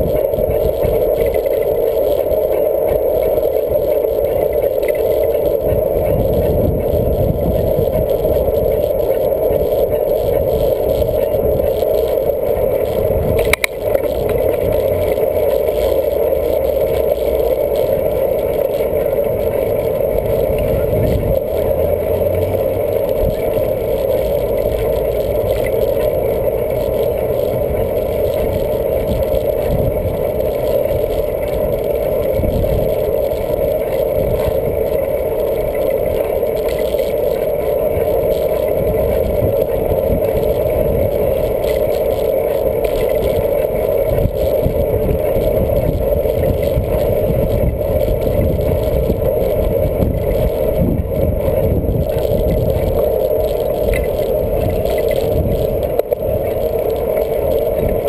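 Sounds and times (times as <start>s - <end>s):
bicycle tyre rumble on pavement: 0.0s - 58.0s
mid-pitched drone: 0.0s - 58.0s
wind rush: 0.0s - 58.0s.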